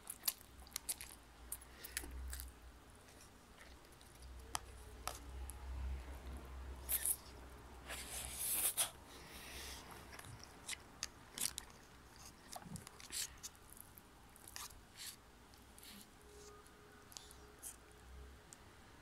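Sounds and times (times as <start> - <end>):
child chewing noodles: 0.0 - 17.9.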